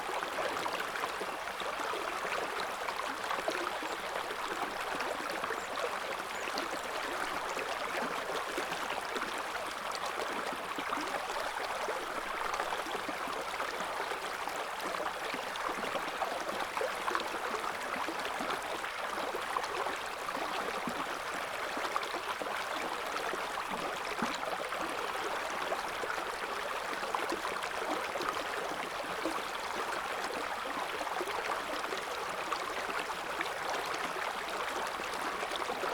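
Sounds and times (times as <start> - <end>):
river water rushing and babbling: 0.0 - 35.9.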